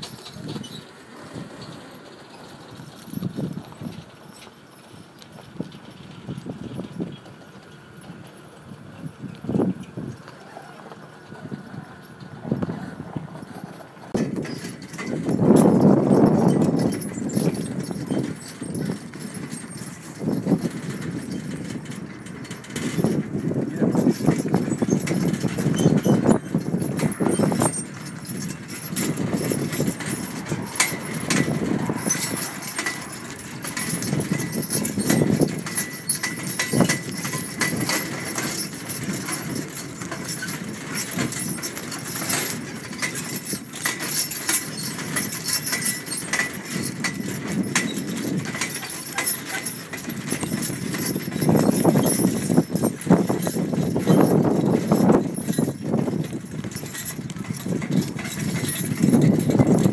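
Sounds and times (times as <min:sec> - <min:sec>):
harness and wagon rattling: 0:00.0 - 0:59.9
hooves clip-clopping on dirt: 0:00.0 - 0:59.9.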